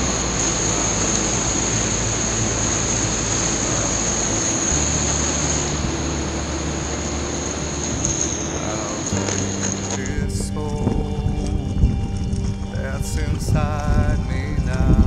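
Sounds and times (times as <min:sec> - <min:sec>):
low steady tones: 0:00.0 - 0:15.0
rushing white water: 0:00.0 - 0:15.0.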